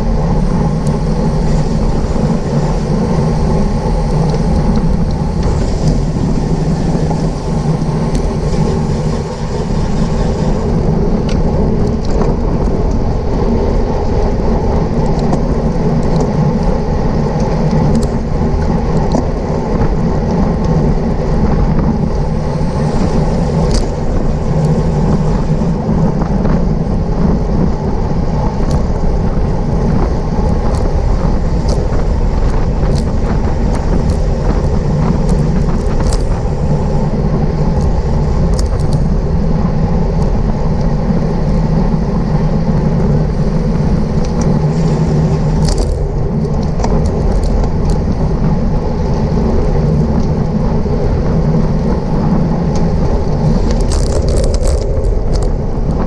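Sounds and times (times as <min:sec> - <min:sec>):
road noise: 0:00.0 - 0:56.0
wind rush: 0:00.0 - 0:56.0.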